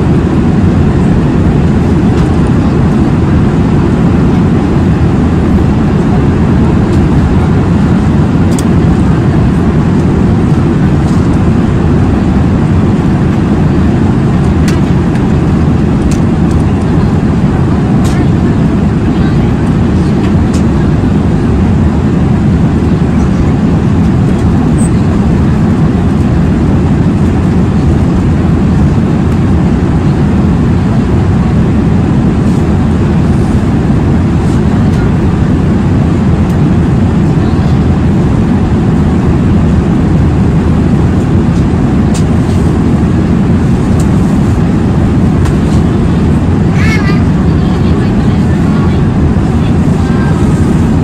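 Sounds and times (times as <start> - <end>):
airliner cabin engine rumble: 0.0 - 51.0.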